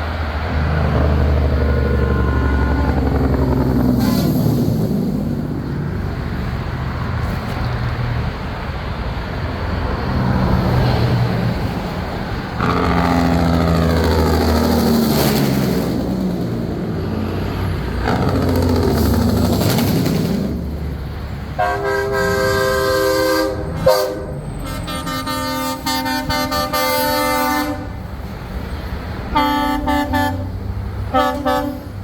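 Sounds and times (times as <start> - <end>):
diesel trucks driving past: 0.0 - 32.0.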